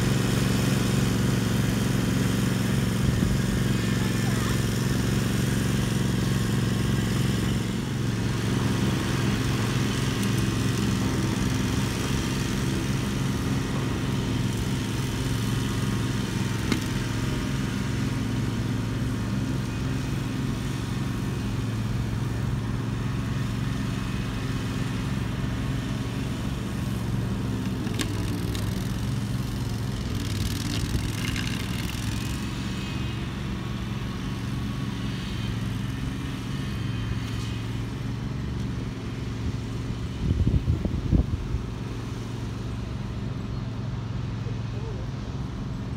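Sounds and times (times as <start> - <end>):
mower engine humming: 0.0 - 45.9.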